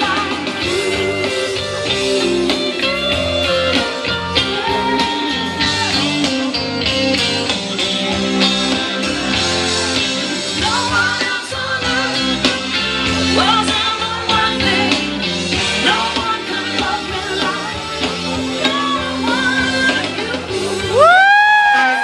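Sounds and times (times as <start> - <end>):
rock and roll song over loudspeakers: 0.0 - 22.0.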